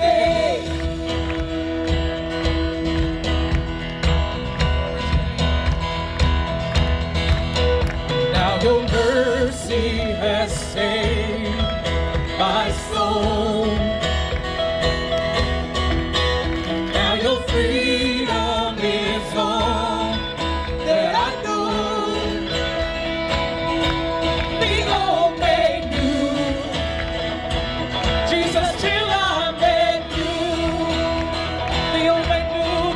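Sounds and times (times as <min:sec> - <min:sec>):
live worship band music: 0:00.0 - 0:32.9.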